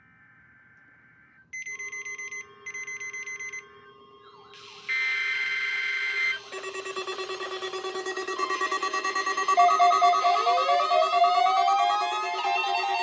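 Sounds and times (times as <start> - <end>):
loud steady alarm tone: 0.0 - 13.0
fast pulsing alarm beeps: 0.2 - 13.0
screechy digital data tones: 0.2 - 13.0.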